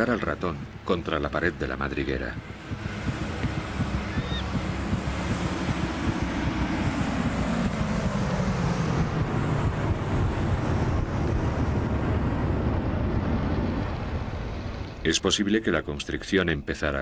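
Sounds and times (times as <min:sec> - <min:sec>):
low rumble with hiss: 0:00.0 - 0:17.0.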